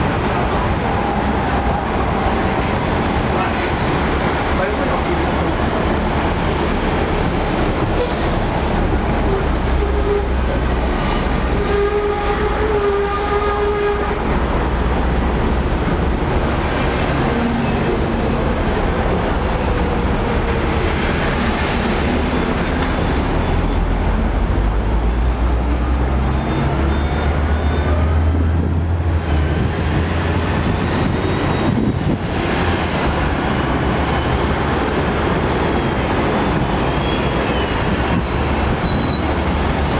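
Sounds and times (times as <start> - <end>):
tram pitched whines: 0.0 - 39.9
tram wheels rumbling on rail: 0.0 - 39.9.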